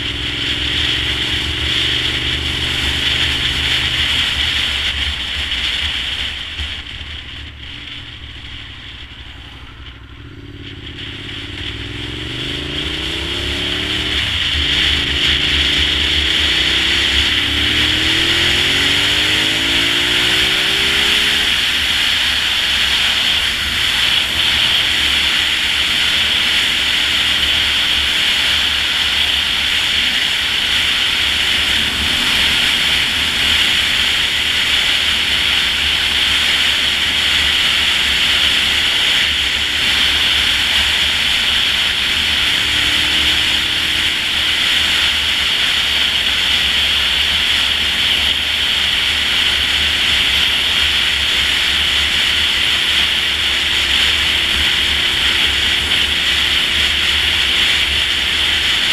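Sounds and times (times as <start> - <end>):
motorcycle engine droning: 0.0 - 58.9.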